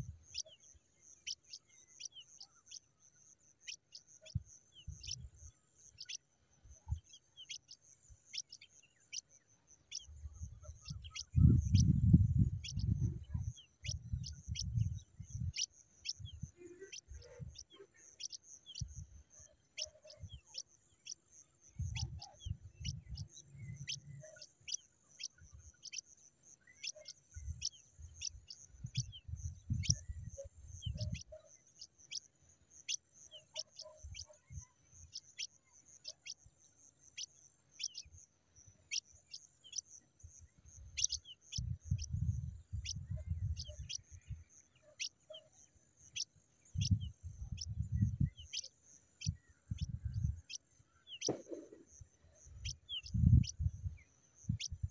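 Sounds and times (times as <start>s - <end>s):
nestlings chirping: 3.6s - 5.3s, 5.9s - 6.2s, 6.9s - 21.2s, 21.8s - 36.4s, 37.0s - 54.9s.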